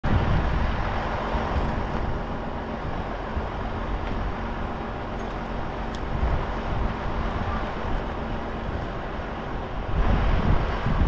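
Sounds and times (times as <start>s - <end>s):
low engine rumble: 0.0s - 11.0s
road noise: 0.0s - 11.0s.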